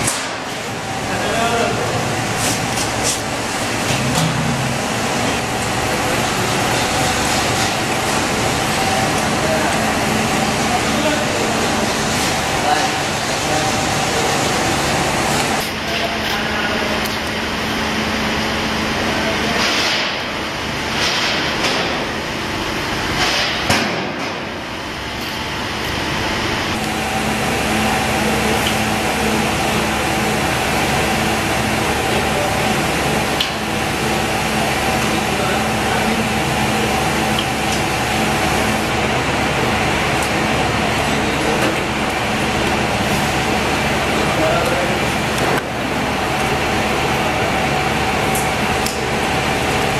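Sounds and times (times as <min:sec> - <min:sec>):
workshop hum and hiss: 0:00.0 - 0:49.9.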